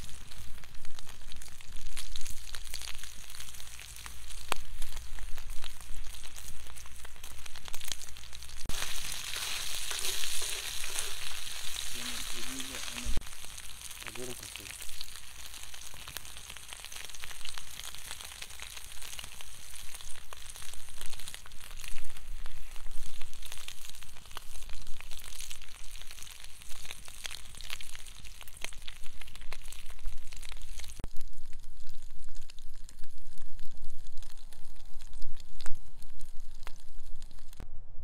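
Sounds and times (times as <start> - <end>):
meat sizzling on griddle pan: 0.0 - 37.6.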